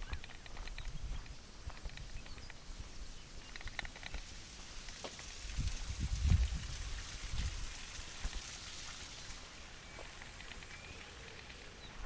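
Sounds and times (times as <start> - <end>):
light rain on leaves: 1.3 - 12.0.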